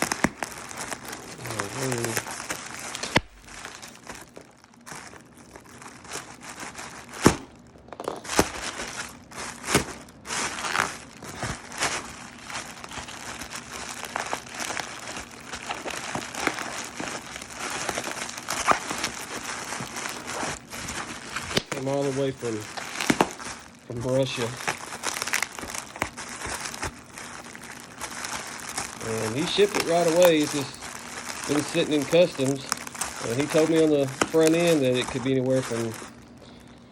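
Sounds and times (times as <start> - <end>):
plastic wrap crinkling and tearing: 0.0 - 36.9.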